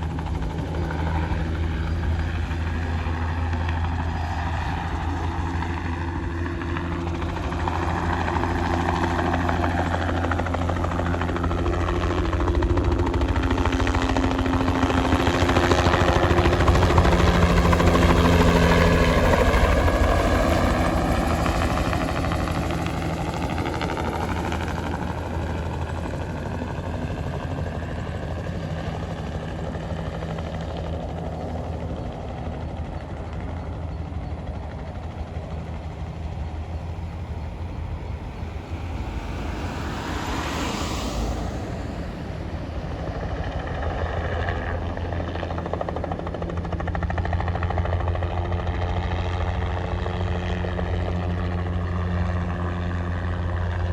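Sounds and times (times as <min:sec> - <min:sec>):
helicopter flying past: 0:00.0 - 0:53.9.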